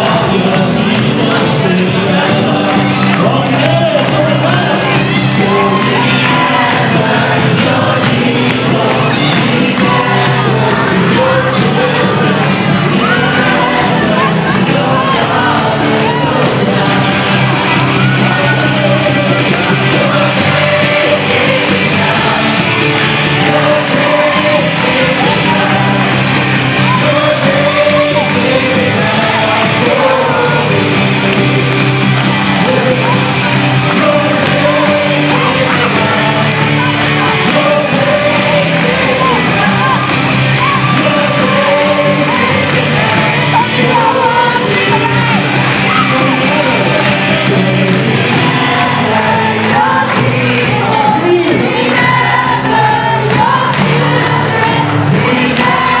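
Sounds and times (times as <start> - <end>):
acoustic guitars strumming: 0.0 - 56.0
voices singing together: 0.0 - 56.0.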